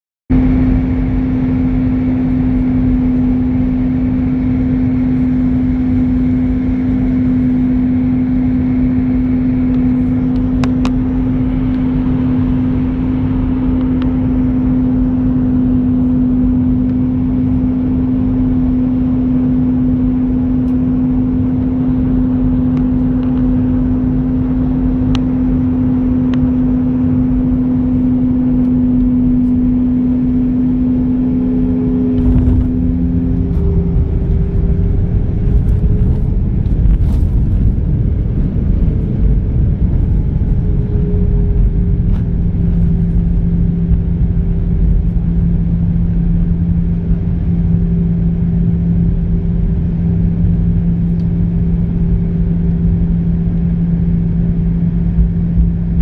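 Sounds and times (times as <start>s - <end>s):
airflow rumble: 0.3s - 56.0s
high whine: 0.3s - 56.0s
jet engine drone: 0.3s - 56.0s.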